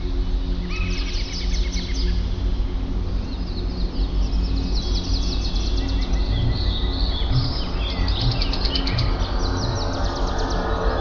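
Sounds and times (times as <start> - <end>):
low steady hum: 0.0 - 11.0
songbirds chirping and trilling: 0.0 - 11.0.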